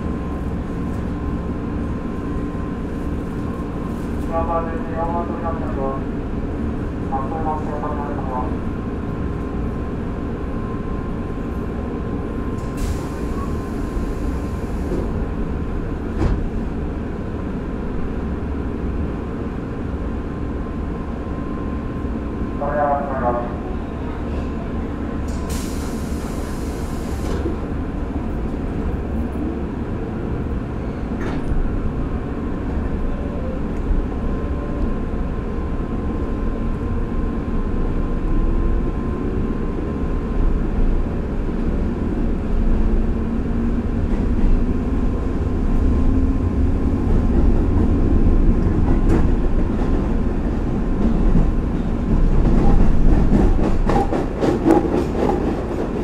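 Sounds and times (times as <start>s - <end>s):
train car rumble: 0.0s - 56.0s.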